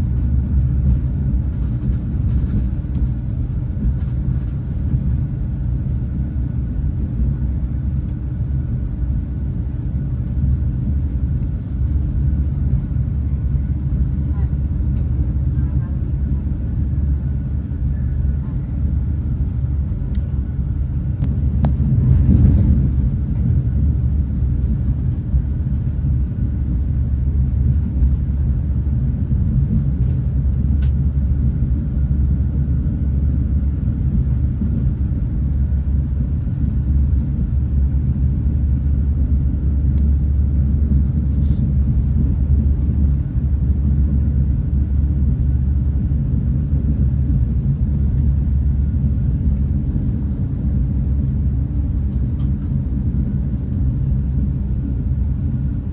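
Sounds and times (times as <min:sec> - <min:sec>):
train rumble from inside coach: 0:00.0 - 0:55.9.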